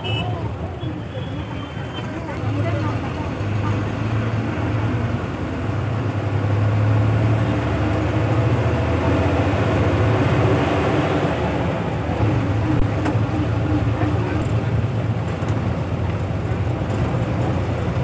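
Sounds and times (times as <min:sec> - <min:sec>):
bus engine drone: 0:00.0 - 0:18.0
road and wind noise: 0:00.0 - 0:18.0.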